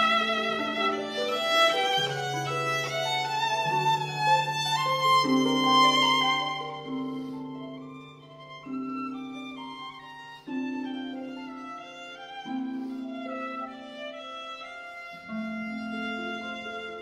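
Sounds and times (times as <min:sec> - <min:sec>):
violin melody with held notes: 0:00.0 - 0:17.0.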